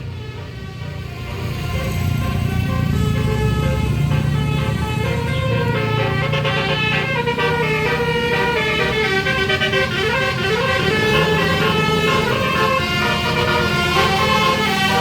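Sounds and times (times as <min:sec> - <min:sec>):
musical air horn playing a tune: 0:00.2 - 0:15.0.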